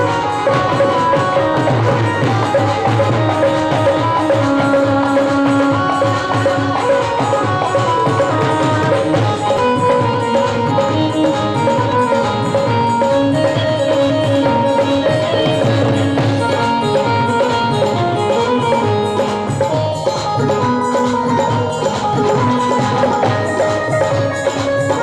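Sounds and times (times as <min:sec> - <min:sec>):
hand drum percussion with jingles: 0:00.0 - 0:25.0
sustained melody line: 0:00.0 - 0:25.0.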